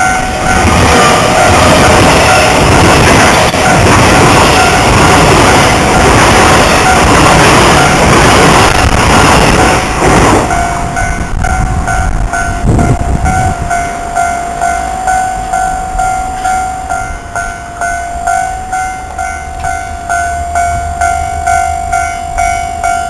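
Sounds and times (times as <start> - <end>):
level-crossing warning bell: 0.0 - 23.0
passing train: 0.0 - 23.0.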